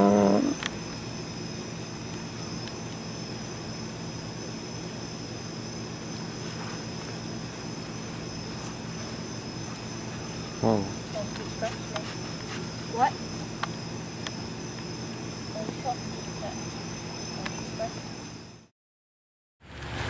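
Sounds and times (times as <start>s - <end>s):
night insects chirring: 0.0s - 18.7s.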